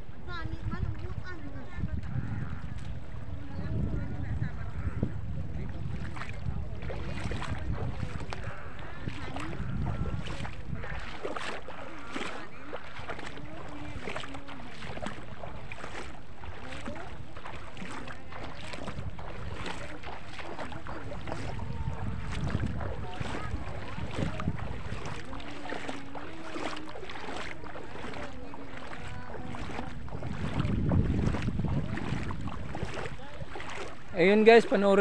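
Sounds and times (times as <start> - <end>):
feet wading through shallow water: 0.0 - 35.0
wind buffeting microphone: 0.0 - 35.0
faint distant voices: 0.4 - 35.0.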